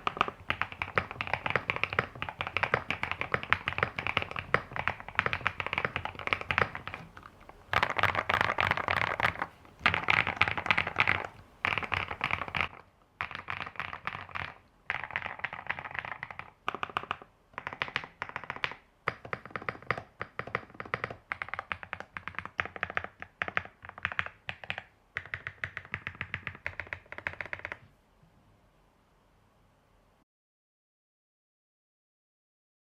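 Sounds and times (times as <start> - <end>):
mechanical keyboard typing: 0.0 - 27.8.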